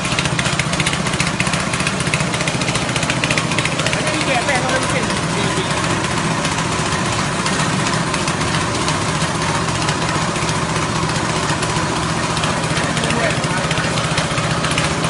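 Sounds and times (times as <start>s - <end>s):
grinding machine engine running: 0.0s - 15.0s.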